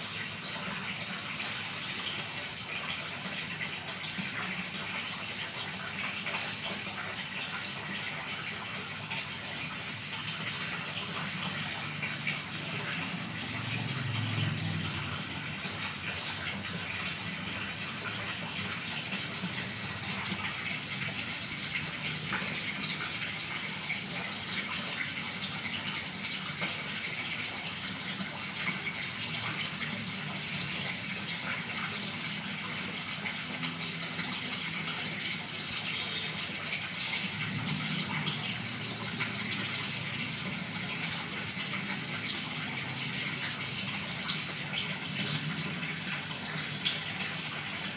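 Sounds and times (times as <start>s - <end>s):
water churning in aquarium: 0.0s - 47.9s.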